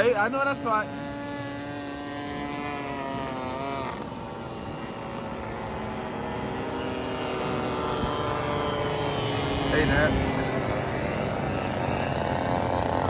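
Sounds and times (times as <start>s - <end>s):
model airplane engine running: 0.0s - 13.0s.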